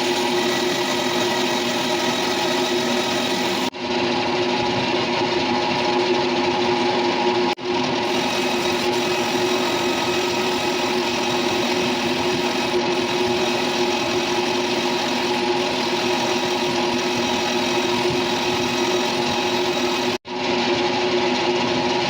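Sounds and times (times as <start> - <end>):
machine tool humming and whining: 0.0 - 22.0.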